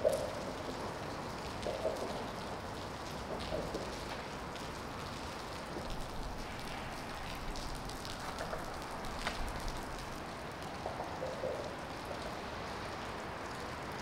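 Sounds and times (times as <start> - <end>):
water pattering on hard surface: 0.0 - 14.0.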